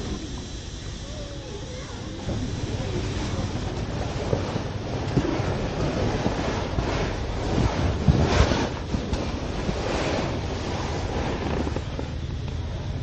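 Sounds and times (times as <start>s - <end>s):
steady low rumble: 0.0s - 13.0s
wind buffeting microphone: 2.0s - 13.0s.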